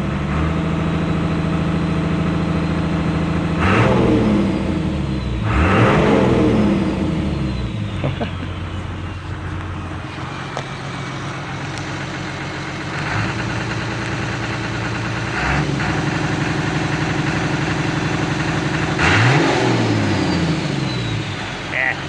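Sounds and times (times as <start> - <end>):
turbocharged engine revving: 0.0 - 22.0.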